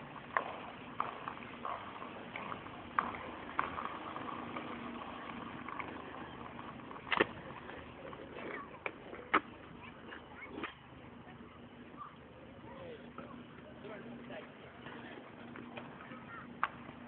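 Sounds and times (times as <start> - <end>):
busy square ambience: 0.0 - 17.0
faint steady hum: 0.0 - 17.0.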